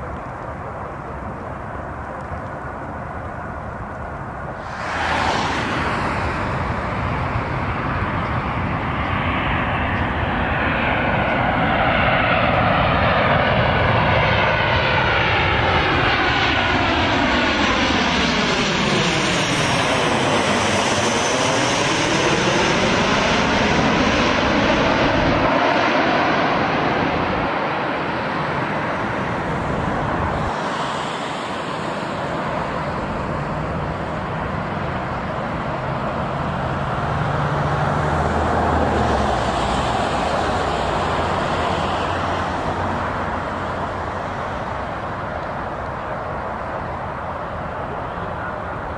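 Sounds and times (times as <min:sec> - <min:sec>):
jet airliner passing low overhead: 0:00.0 - 0:48.9.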